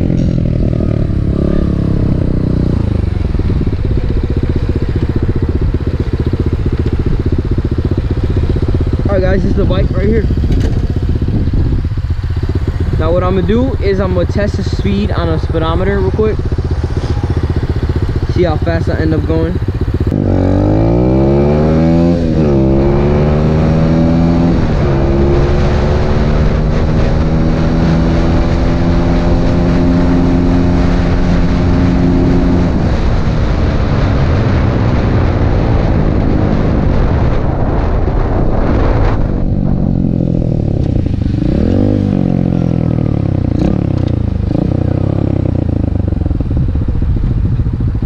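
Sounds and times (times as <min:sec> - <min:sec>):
motorbike engine accelerating: 0:00.0 - 0:48.0
wind on microphone: 0:00.0 - 0:48.0.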